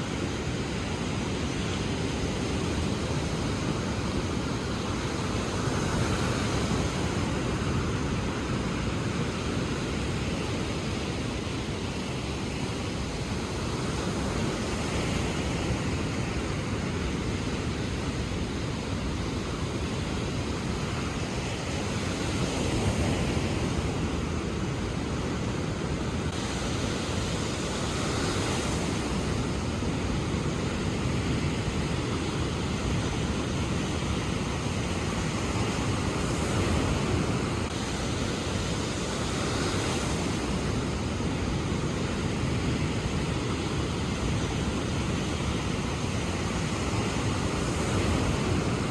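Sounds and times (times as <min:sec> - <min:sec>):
ocean waves washing in: 0:00.0 - 0:48.9.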